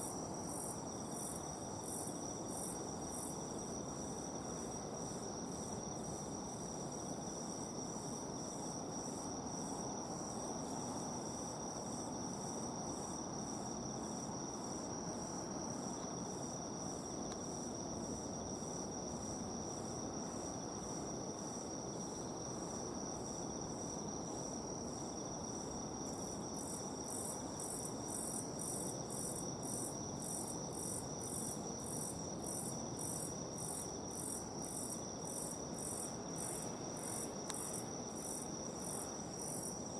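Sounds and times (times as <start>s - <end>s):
insect rhythmic chirping: 0.0s - 39.9s.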